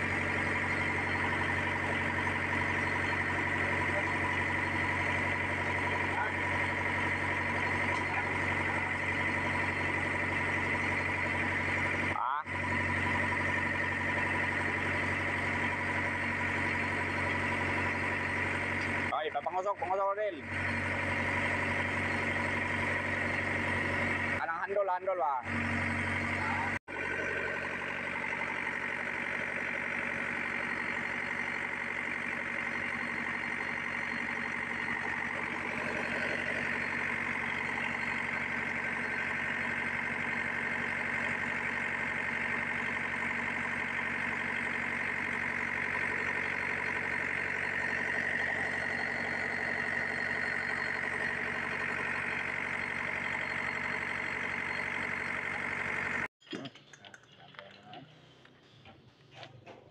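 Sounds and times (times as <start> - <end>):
excavator diesel engine idling: 0.0 - 59.9
hydraulic pump running: 0.0 - 59.9.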